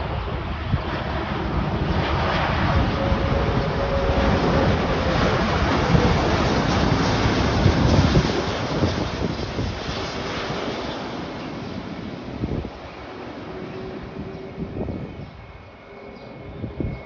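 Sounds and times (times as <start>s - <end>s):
airliner jet noise: 0.0s - 17.0s
faint jet whine: 0.0s - 17.0s
wind buffeting microphone: 0.0s - 17.0s.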